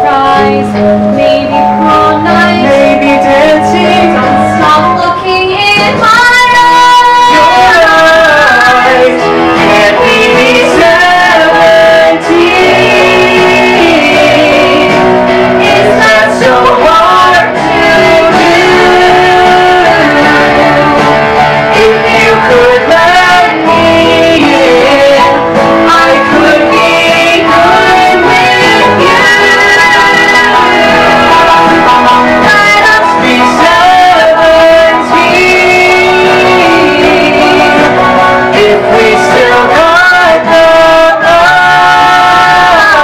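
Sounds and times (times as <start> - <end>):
instrumental accompaniment: 0.0 - 43.0
woman and man singing duet: 0.0 - 43.0.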